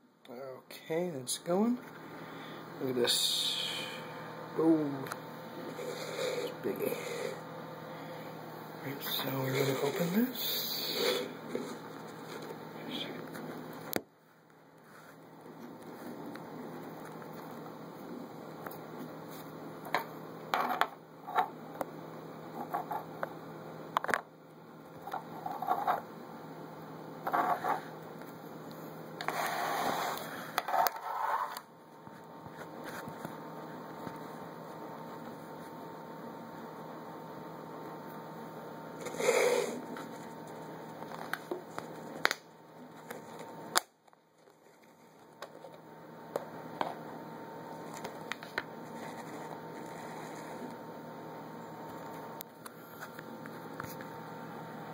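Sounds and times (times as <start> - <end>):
steady background hum: 0.0 - 54.9.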